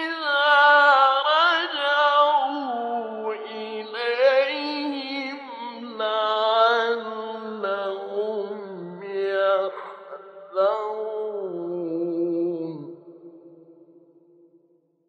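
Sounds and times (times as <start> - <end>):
man chanting melodically: 0.0 - 13.8.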